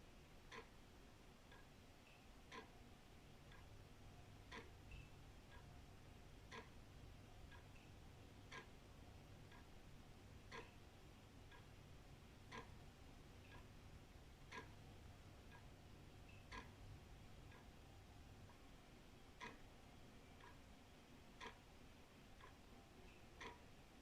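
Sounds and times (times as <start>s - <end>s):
wall clock ticking: 0.4s - 24.0s.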